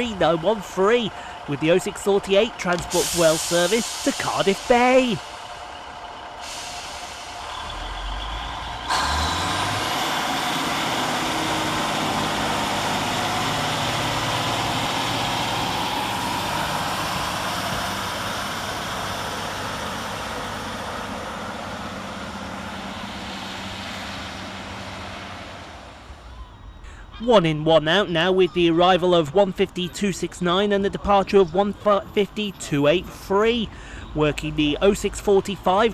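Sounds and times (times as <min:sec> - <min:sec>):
train diesel engine pulling away: 0:00.0 - 0:27.1, 0:31.3 - 0:35.9.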